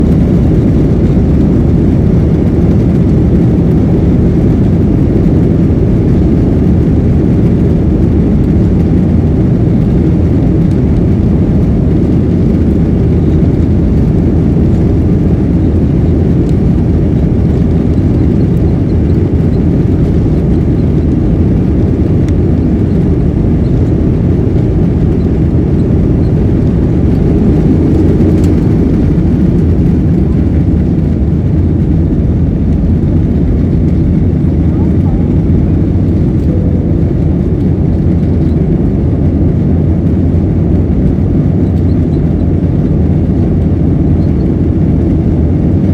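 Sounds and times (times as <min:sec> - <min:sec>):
aircraft engines rumbling: 0:00.0 - 0:45.9.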